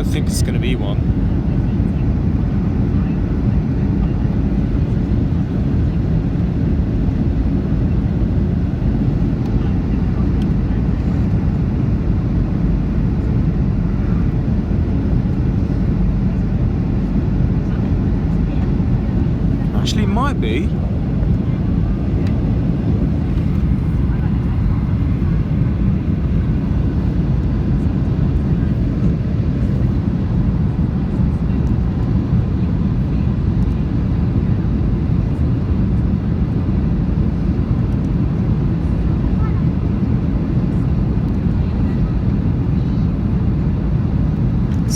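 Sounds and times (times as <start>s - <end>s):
airplane cabin engine roar: 0.0s - 44.9s.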